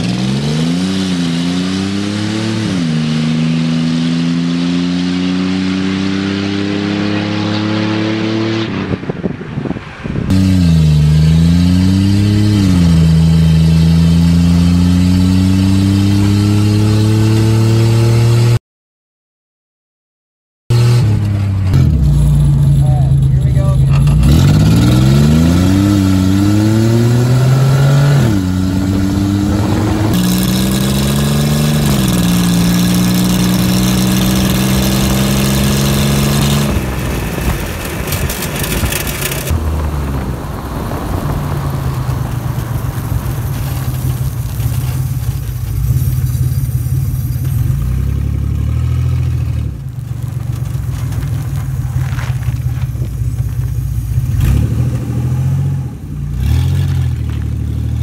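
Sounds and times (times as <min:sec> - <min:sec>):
car engine accelerating: 0:00.0 - 0:18.6, 0:20.7 - 0:58.0
wind and road noise: 0:00.0 - 0:18.6, 0:20.7 - 0:58.0.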